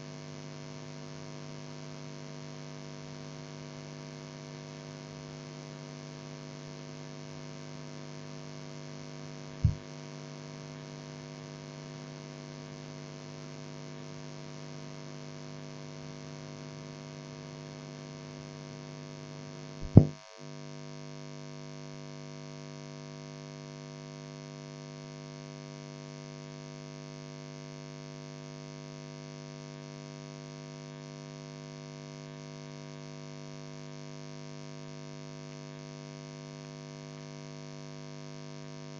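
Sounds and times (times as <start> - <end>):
mains hum: 0.0 - 38.9.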